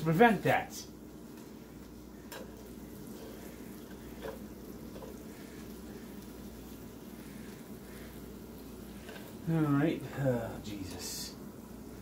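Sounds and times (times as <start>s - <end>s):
burger patties sizzling on grill: 0.0s - 12.0s.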